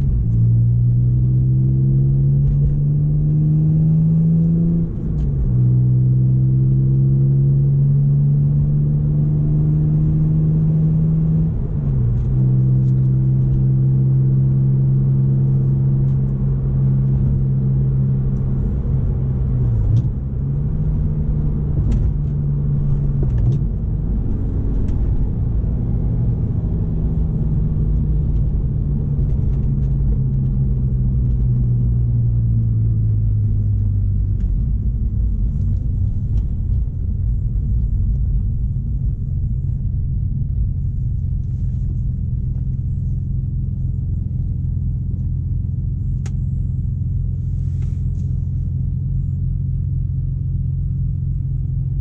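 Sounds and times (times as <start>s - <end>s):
car engine hum from inside cabin: 0.0s - 52.0s.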